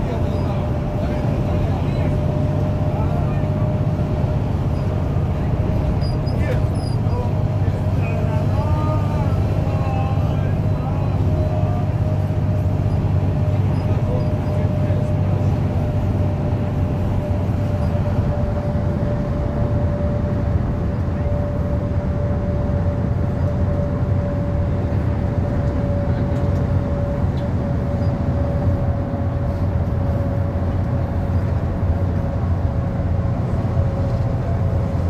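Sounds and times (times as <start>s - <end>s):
train rumble: 0.0s - 35.0s.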